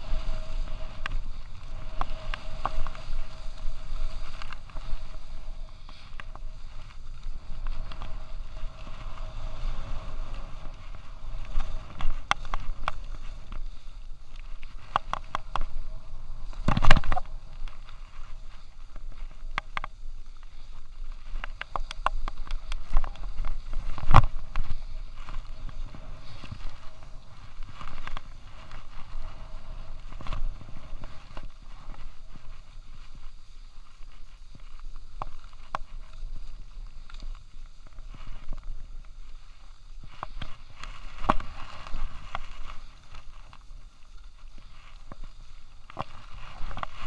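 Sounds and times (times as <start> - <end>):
skis scraping over snow: 0.0 - 47.0.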